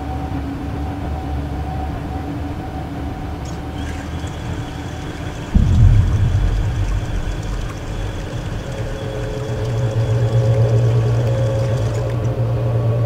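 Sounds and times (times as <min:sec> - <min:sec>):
low droning hum: 0:01.8 - 0:13.0.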